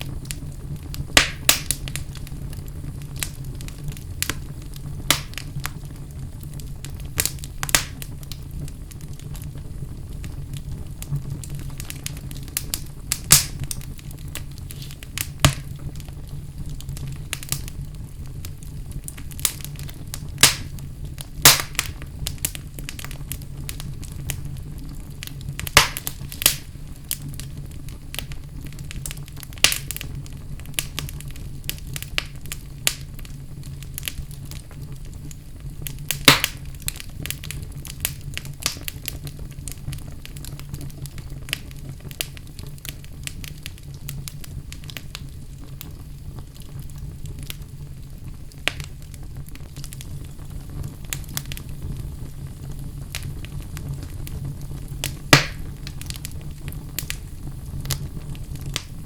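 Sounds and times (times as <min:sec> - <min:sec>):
fire crackling and popping: 0:00.0 - 0:59.0
wood fire rumbling: 0:00.0 - 0:59.0.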